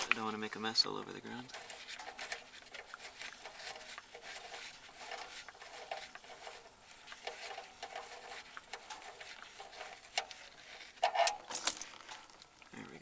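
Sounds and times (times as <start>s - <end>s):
oil dripping into a drain pan: 0.0s - 13.0s.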